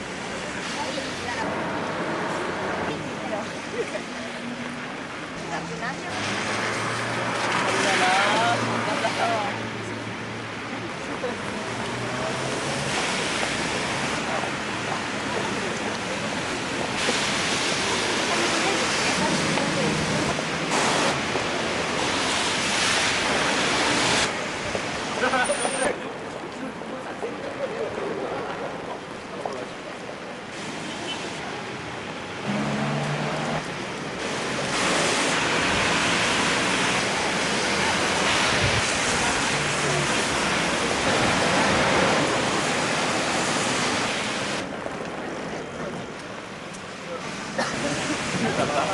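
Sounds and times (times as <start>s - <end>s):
rain on a wet street: 0.0s - 48.9s.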